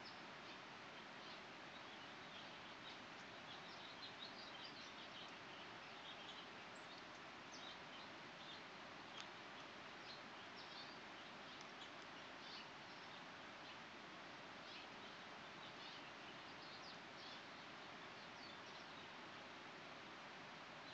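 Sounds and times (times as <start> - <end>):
outdoor background hiss: 0.0 - 20.9
small birds chirping: 0.0 - 20.9.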